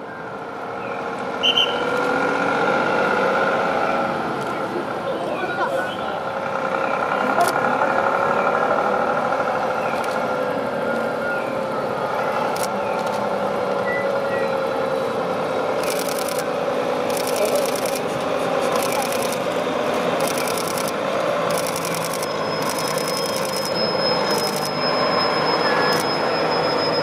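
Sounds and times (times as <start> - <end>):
truck diesel engine: 0.0 - 27.0
vehicles driving slowly past: 0.0 - 27.0.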